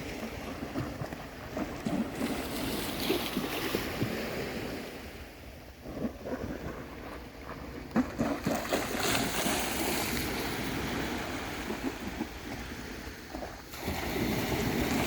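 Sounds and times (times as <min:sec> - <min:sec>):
sea waves breaking: 0:00.0 - 0:15.0.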